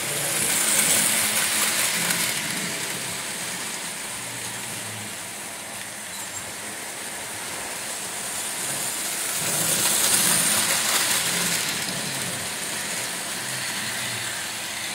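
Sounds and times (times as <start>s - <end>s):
model train rolling on track: 0.0s - 14.9s.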